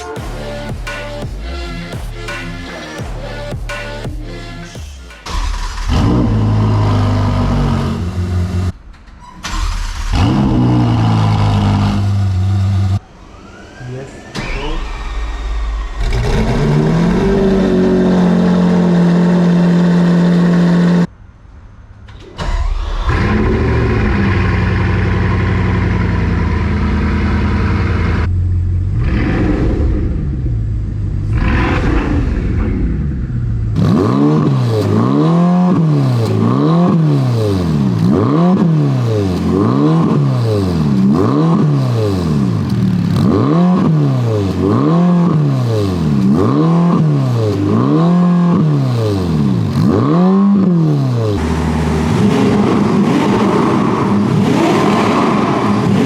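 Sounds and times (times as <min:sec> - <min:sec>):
car engine revving: 0:00.0 - 0:21.1, 0:22.4 - 0:56.0.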